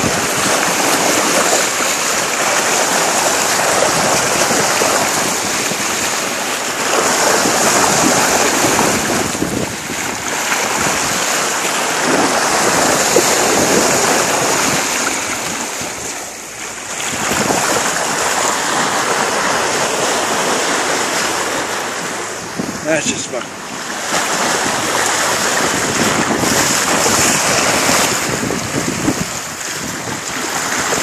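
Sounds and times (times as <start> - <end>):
wind on microphone: 0.0 - 2.0, 2.6 - 31.0
water rushing along a hull: 0.0 - 31.0.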